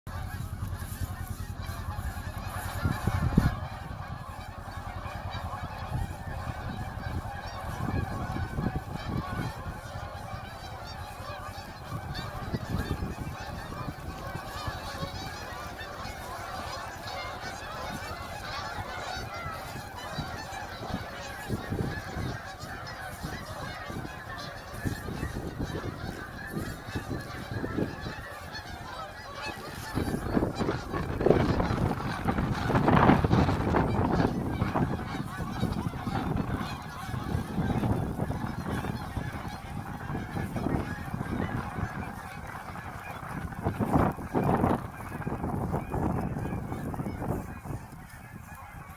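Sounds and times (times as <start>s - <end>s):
geese honking: 0.1s - 48.9s
wind buffeting microphone: 0.1s - 48.9s.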